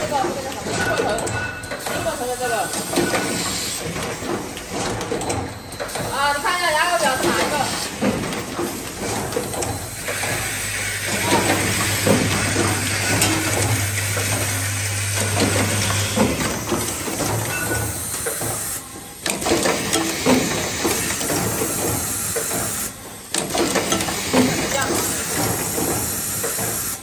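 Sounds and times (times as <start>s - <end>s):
machine clicks and clacks: 0.0s - 27.0s.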